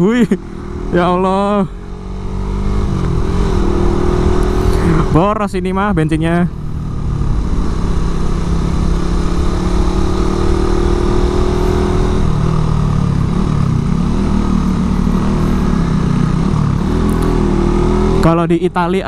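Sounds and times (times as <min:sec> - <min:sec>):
motorcycle engine climbing: 0:00.0 - 0:19.0.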